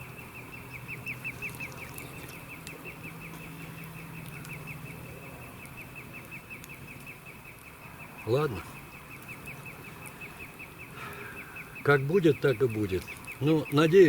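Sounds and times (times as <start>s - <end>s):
bird chirping rapidly: 0.0s - 14.0s.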